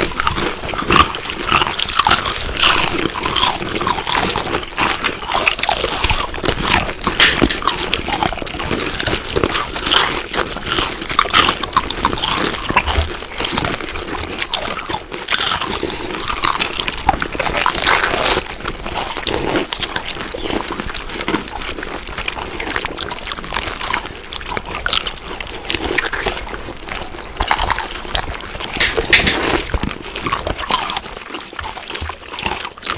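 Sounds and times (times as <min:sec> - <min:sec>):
chewing crunchy food: 0:00.0 - 0:32.9.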